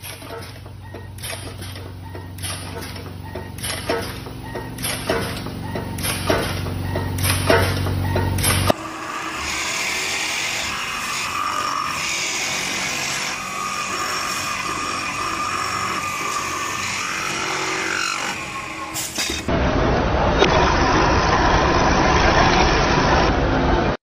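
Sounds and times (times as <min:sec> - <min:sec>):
metal spinning machine whirring: 0:00.0 - 0:24.0.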